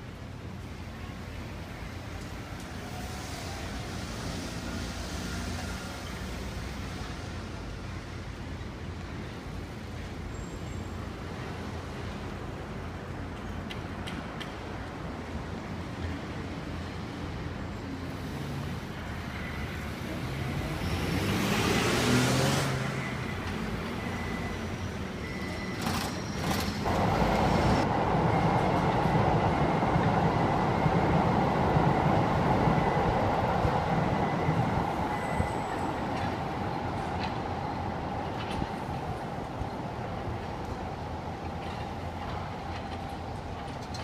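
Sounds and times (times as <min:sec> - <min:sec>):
low rumble of street traffic: 0:00.0 - 0:44.0
train rail and wheel noise: 0:00.0 - 0:44.0.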